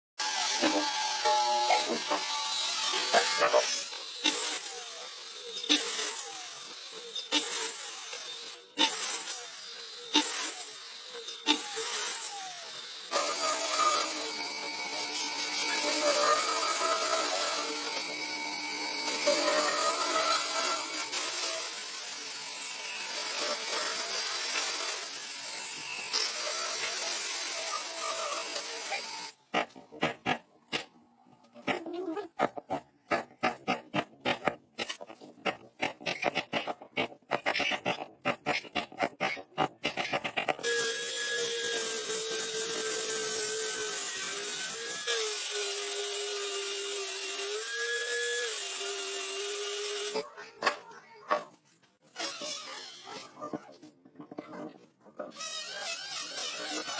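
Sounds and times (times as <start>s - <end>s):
miter saw cutting log: 0.2s - 50.8s, 55.3s - 56.9s.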